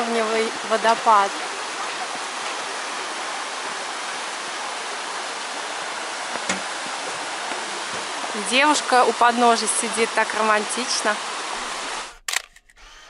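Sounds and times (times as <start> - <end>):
waterfall rushing: 0.0 - 12.1.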